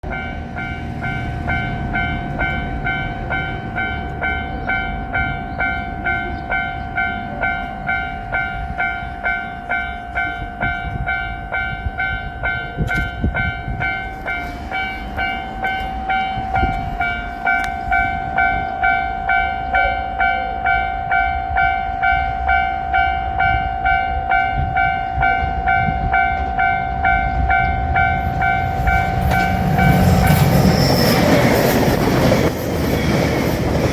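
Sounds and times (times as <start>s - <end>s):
approaching train: 0.0s - 33.9s
railroad crossing bell ringing: 0.0s - 33.9s.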